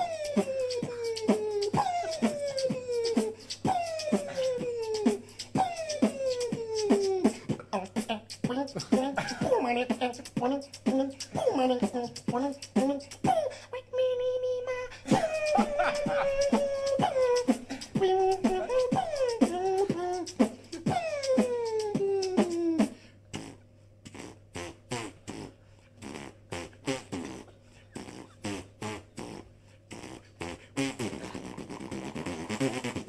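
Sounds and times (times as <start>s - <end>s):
beatboxed kick and snare: 0.0s - 13.4s, 15.1s - 33.0s
mouth clicks: 0.0s - 13.4s, 15.1s - 33.0s.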